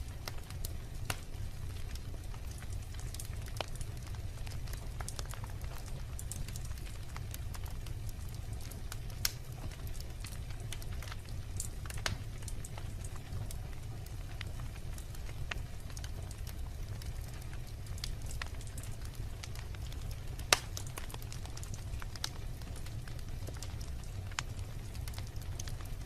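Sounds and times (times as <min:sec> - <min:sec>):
fire flames rumbling: 0:00.0 - 0:26.0
wood fire crackling and popping: 0:00.0 - 0:26.0.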